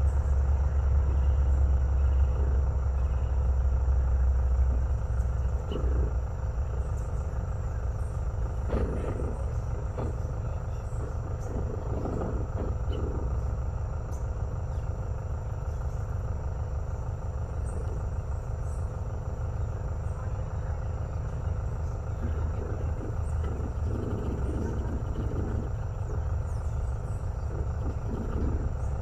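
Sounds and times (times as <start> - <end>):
toucan croaking calls: 0.0 - 16.3, 16.9 - 29.0
faint insect tones: 0.0 - 29.0
low rumble: 0.0 - 29.0.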